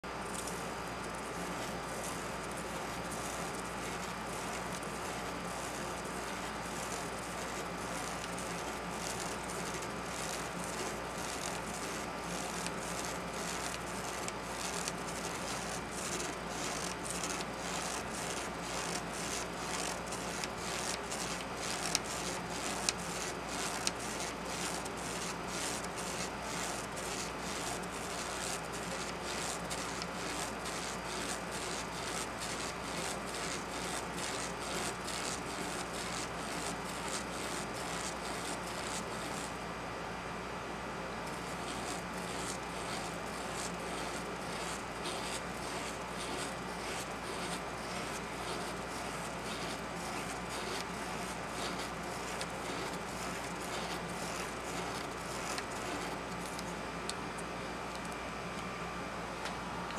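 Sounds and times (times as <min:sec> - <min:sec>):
pen scratching on paper: 0:01.6 - 0:39.5, 0:41.3 - 0:56.7.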